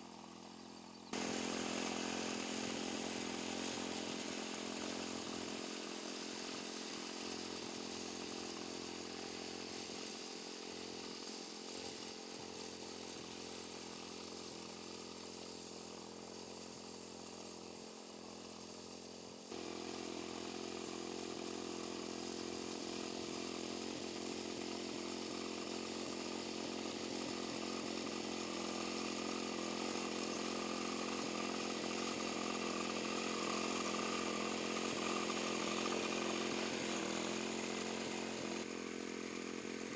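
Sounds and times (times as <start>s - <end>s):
mower engine cutting grass: 0.0s - 39.9s.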